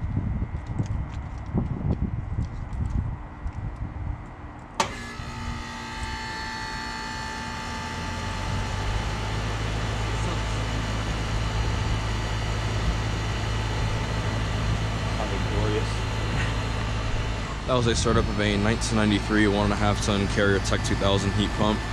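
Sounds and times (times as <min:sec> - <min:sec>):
compressor humming: 0:00.0 - 0:21.9
outdoor fan running: 0:00.0 - 0:21.9.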